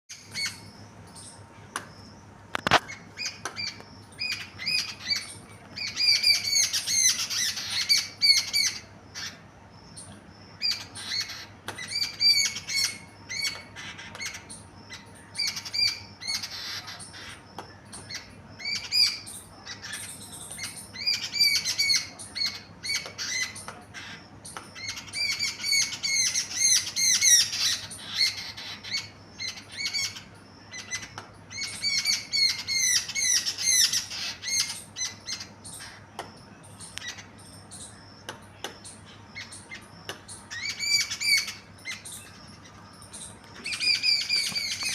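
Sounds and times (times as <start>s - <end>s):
small birds chirping: 0.1s - 44.9s.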